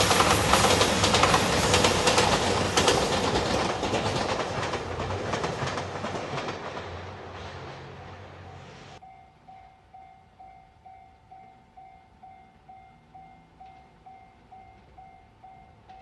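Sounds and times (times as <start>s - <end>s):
train noise: 0.0s - 16.0s.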